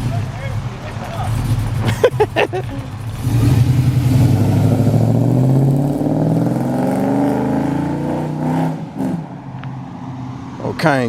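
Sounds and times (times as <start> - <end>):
car exhaust accelerating: 0.0 - 10.8.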